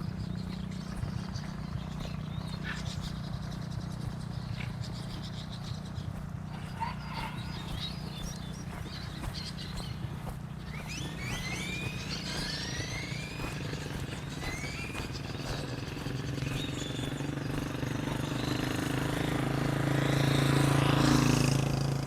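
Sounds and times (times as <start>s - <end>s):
birds chirping: 0.0s - 22.0s
steady low drone: 0.0s - 22.0s.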